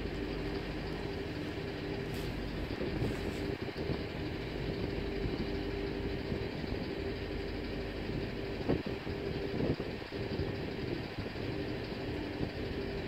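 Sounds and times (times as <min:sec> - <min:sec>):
boat diesel engines droning: 0:00.0 - 0:13.0.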